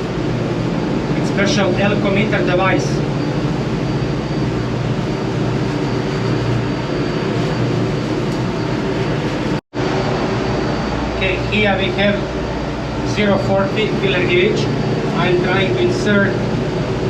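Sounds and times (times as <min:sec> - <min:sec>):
engine room machinery hum: 0:00.0 - 0:17.0.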